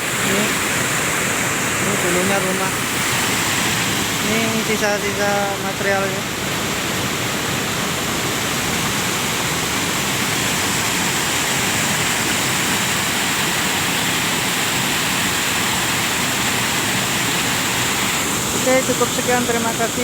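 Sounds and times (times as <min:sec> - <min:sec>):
mudflow rushing down river: 0:00.0 - 0:20.0.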